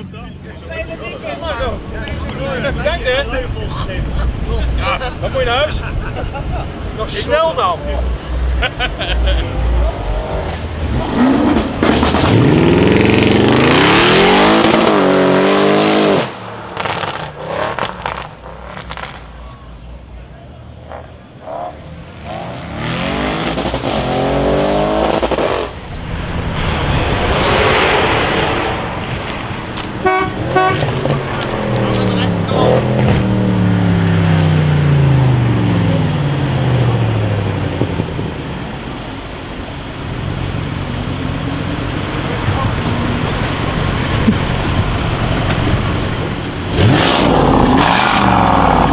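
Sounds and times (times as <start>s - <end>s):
car engine accelerating hard: 0.0s - 20.1s, 20.7s - 48.9s.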